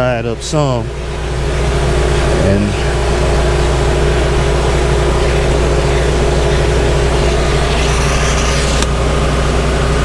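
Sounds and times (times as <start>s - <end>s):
shop vac motor humming: 0.0s - 10.0s.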